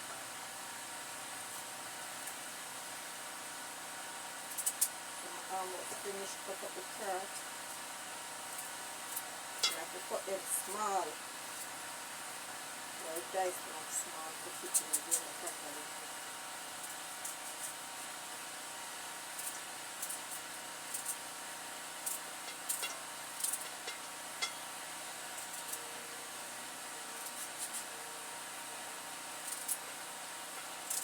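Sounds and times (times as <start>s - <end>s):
steady background hiss: 4.5s - 31.0s.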